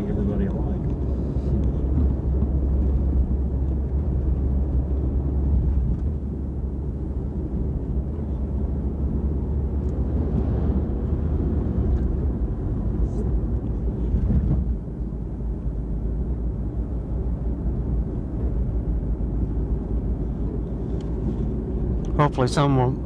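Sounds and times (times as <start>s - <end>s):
car driving heard from inside: 0.0s - 23.0s.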